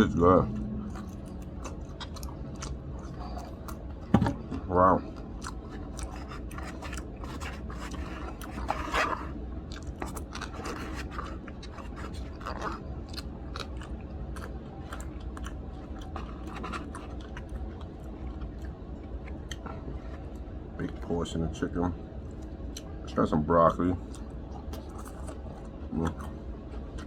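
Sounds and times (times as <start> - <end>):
person chewing food: 0.0 - 21.1, 22.2 - 23.0, 24.0 - 27.0
low background hum: 0.0 - 27.0.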